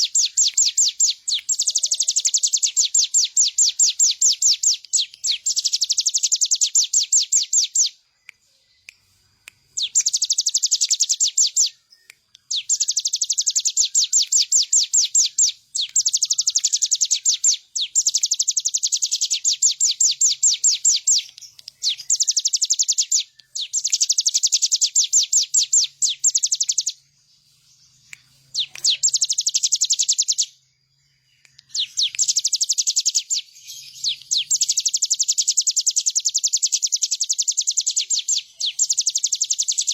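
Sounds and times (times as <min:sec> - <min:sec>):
bird singing fast high trills: 0:00.0 - 0:08.0, 0:09.8 - 0:27.1, 0:27.7 - 0:39.9.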